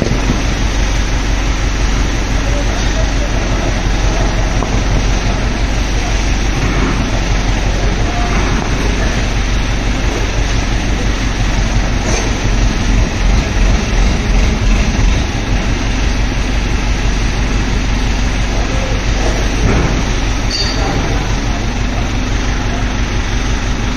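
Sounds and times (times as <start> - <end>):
heavy machinery rumbling: 0.0 - 23.9.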